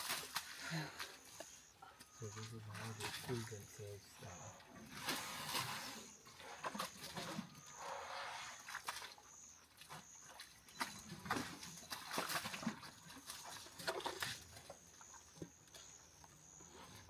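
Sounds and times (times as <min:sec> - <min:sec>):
elephants rustling and cracking: 0:00.0 - 0:03.8, 0:04.7 - 0:17.0
frogs chorus: 0:00.4 - 0:05.2, 0:05.8 - 0:17.0.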